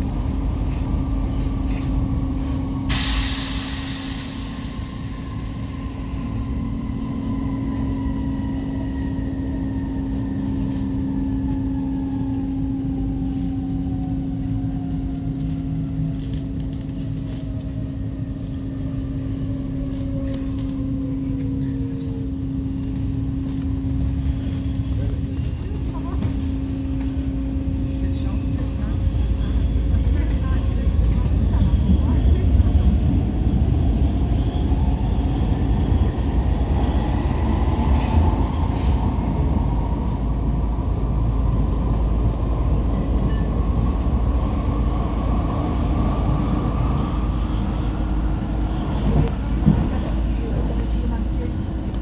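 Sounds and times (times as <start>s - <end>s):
metro train rumbling: 0.0s - 52.0s.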